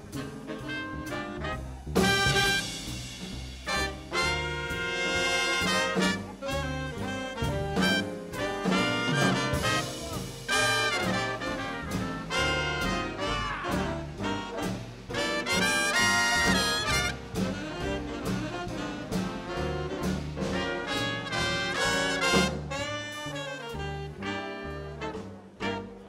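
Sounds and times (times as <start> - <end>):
swing big band playing: 0.0 - 26.0.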